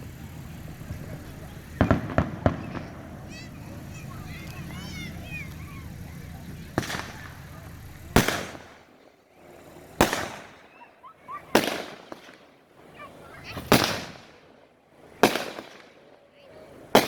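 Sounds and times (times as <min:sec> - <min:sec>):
fireworks booming with echo: 0:00.0 - 0:17.0.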